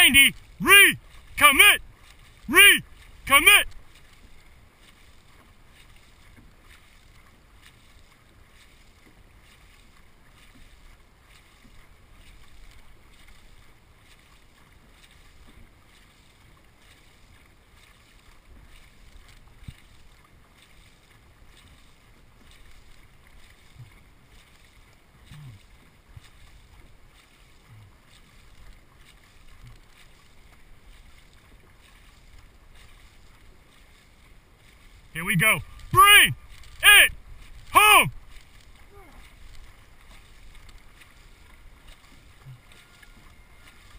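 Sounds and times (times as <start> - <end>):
paddles catching water: 0.0 - 43.9.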